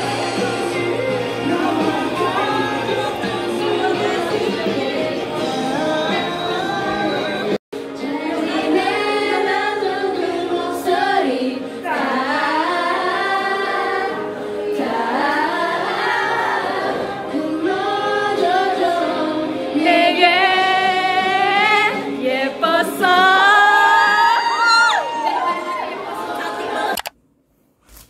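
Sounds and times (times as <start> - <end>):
group of voices singing: 0.0 - 24.7, 25.4 - 27.0.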